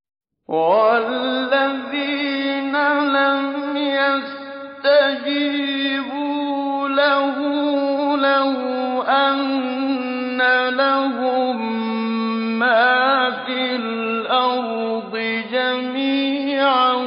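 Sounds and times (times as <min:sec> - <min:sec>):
man chanting melodically: 0:00.5 - 0:17.0.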